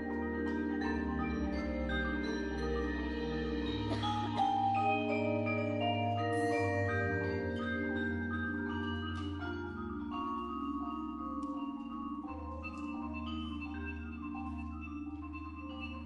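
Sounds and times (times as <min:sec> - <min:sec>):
marimbas and vibraphones playing: 0:00.0 - 0:16.0.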